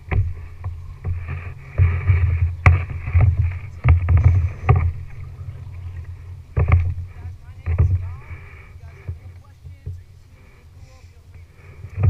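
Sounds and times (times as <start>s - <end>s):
paddles knocking against boat: 0.0s - 12.0s
water surging against plastic hull: 0.0s - 12.0s.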